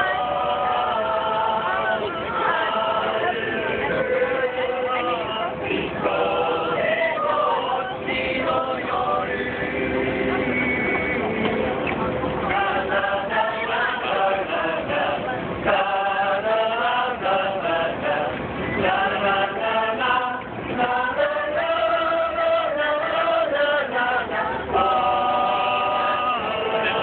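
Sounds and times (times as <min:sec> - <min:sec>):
choir singing: 0:00.0 - 0:11.2, 0:12.4 - 0:27.0.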